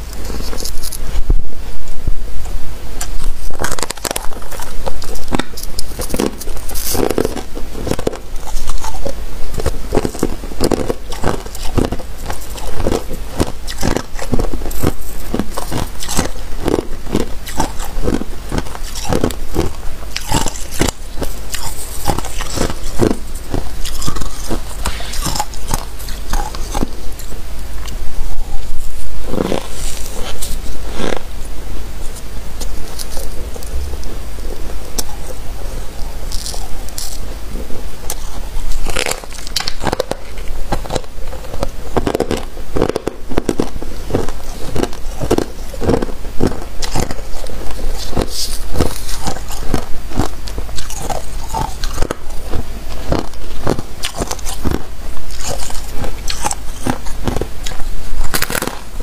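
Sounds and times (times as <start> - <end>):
chewing crunchy frost: 0.0 - 1.5, 2.4 - 59.0.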